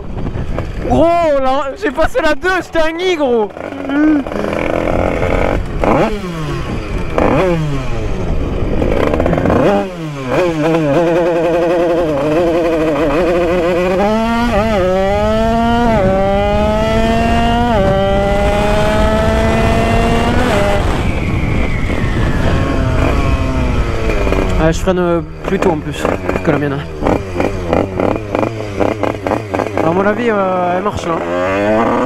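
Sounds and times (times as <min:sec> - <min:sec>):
two-stroke moped engine revving: 0:03.4 - 0:32.0.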